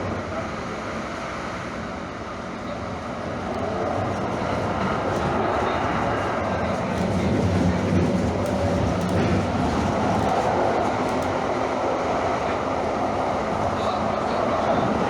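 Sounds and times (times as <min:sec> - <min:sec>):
train wheels and motors rumbling: 0:00.0 - 0:15.0.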